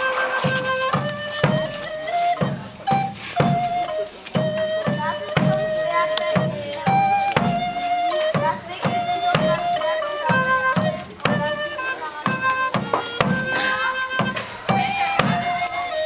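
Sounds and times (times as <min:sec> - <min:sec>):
large drum beating: 0:00.0 - 0:16.0
wind instrument melody: 0:00.0 - 0:16.0.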